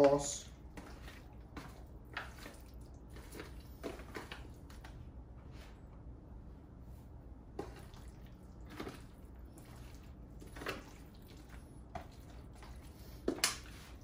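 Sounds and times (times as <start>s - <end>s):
wet squelches of meat in foil pan: 0.0s - 5.0s, 7.5s - 14.0s.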